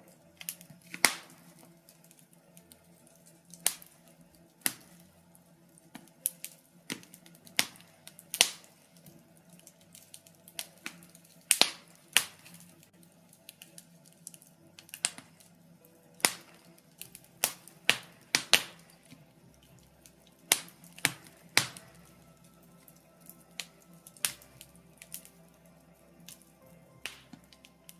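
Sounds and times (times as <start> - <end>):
logs crackling and popping in fire: 0.0 - 27.9.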